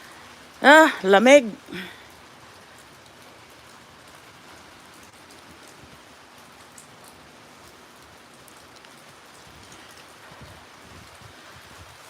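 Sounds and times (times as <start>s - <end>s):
raindrops ticking on surface: 0.0s - 12.0s
steady rain falling: 0.0s - 12.0s.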